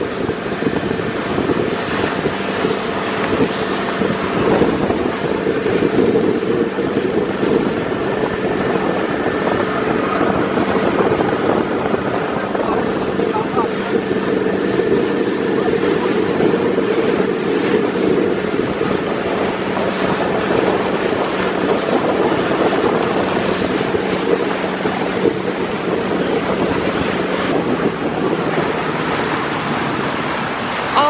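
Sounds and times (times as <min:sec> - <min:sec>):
low engine hum: 0:00.0 - 0:31.0
water rushing off hull: 0:00.0 - 0:31.0
wind buffeting microphone: 0:00.0 - 0:31.0.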